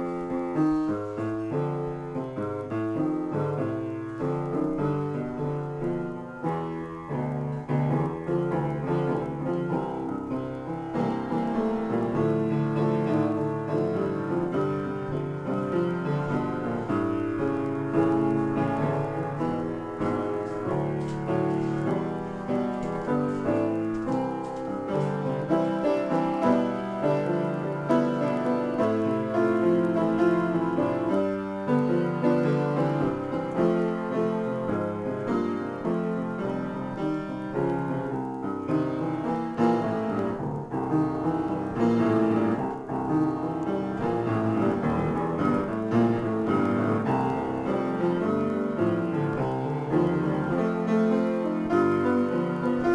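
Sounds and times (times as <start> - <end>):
upright piano playing: 0.0 - 52.9.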